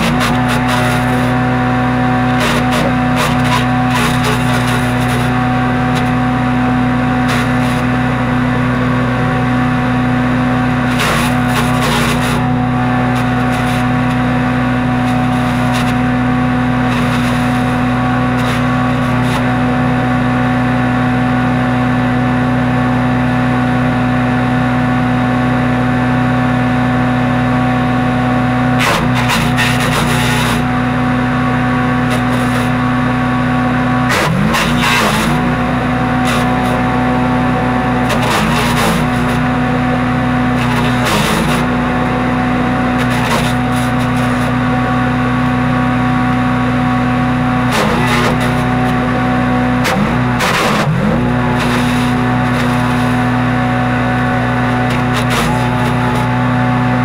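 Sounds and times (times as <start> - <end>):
wood chipper engine running: 0.0 - 57.0.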